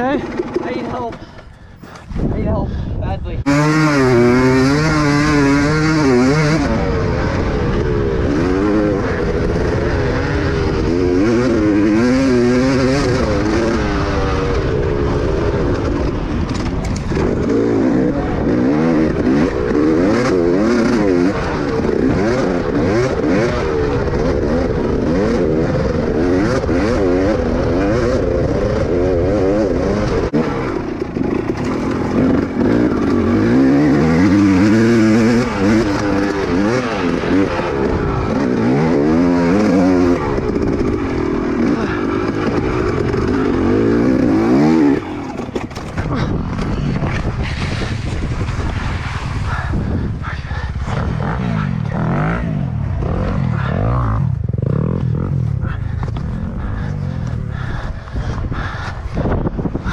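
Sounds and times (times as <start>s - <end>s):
dirt bike engine revving: 3.4s - 58.7s.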